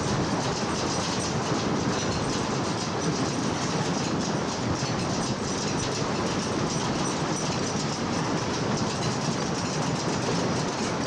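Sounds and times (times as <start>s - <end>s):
roller coaster wheels clattering: 0.0s - 11.0s.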